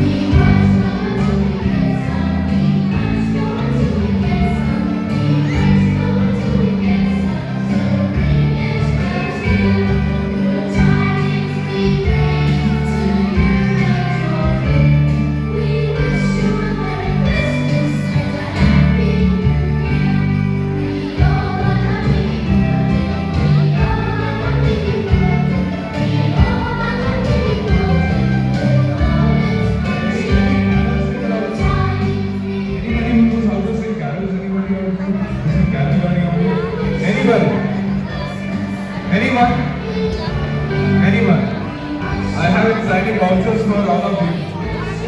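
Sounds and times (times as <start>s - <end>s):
group of voices singing: 0.0s - 45.0s.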